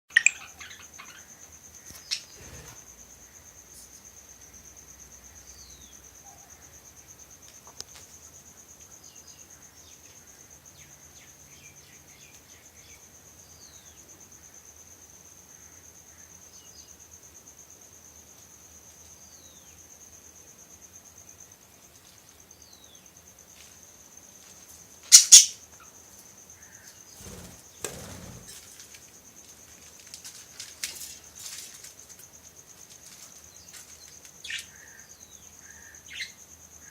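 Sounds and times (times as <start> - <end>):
high insect trill: 0.1 - 36.9.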